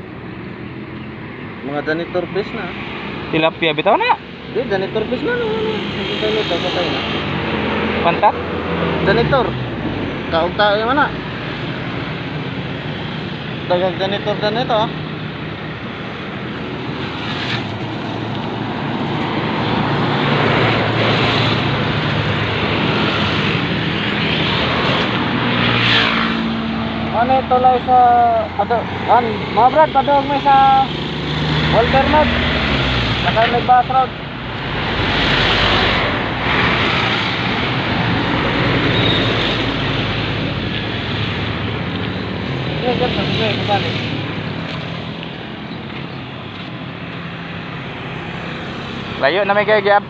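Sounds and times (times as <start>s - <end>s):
road traffic passing close by: 0.0s - 50.0s.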